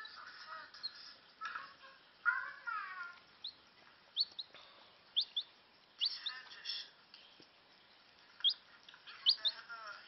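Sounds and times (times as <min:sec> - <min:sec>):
chick peeping: 0:00.0 - 0:06.6, 0:08.3 - 0:10.0.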